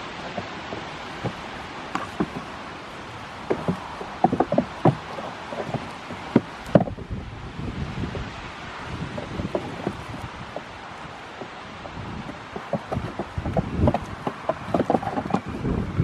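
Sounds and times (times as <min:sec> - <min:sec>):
hooves knocking on wooden boards: 0:00.0 - 0:16.0
wind noise on microphone: 0:00.0 - 0:16.0
goat heads clashing: 0:00.2 - 0:07.0, 0:09.0 - 0:10.8, 0:11.4 - 0:15.6.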